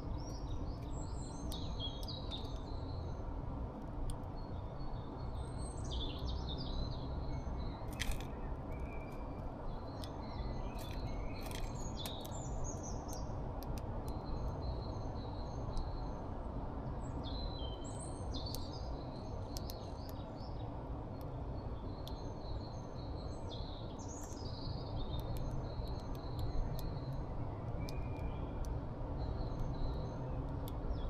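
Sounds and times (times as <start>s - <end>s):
small birds chirping: 0.0s - 3.3s, 4.0s - 31.0s.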